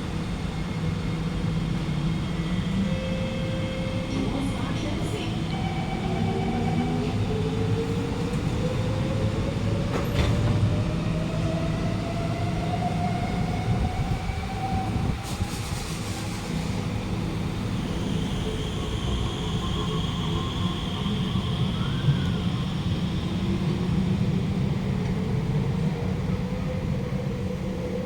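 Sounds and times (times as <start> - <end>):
wheels rumbling on rail: 0.0 - 28.0.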